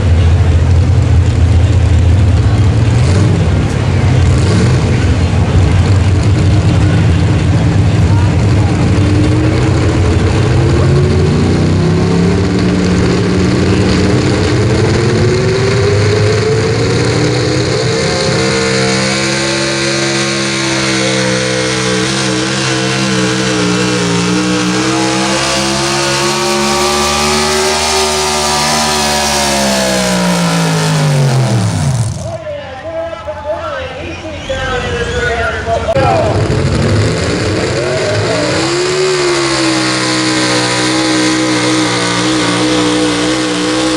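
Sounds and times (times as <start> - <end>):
truck engine at full throttle: 0.0 - 43.9.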